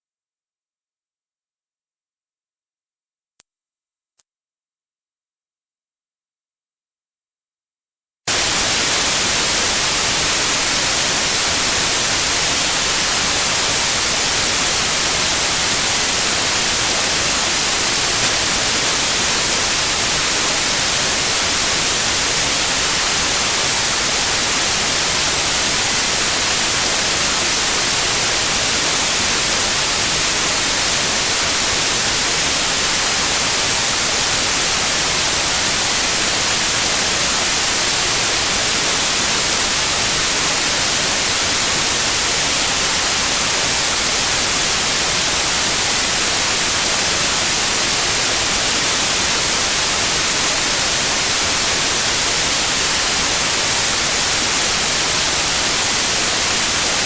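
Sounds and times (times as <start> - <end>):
steady pure tone: 8.3 - 57.0
white noise: 8.3 - 57.0.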